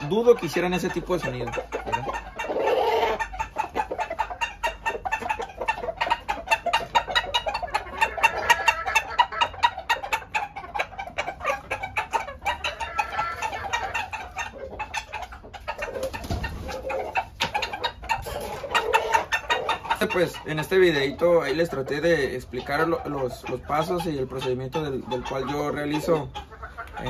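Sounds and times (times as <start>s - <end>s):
roosters clucking: 0.0s - 27.0s.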